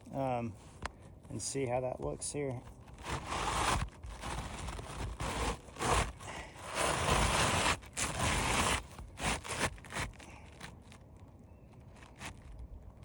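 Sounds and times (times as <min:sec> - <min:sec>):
shingle scraping and rustling: 0:00.5 - 0:13.0.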